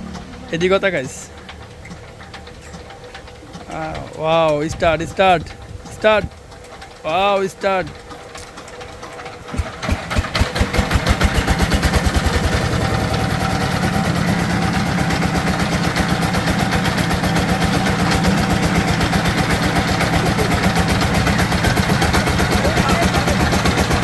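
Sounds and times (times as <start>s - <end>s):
diesel engine starting: 0.0s - 24.0s.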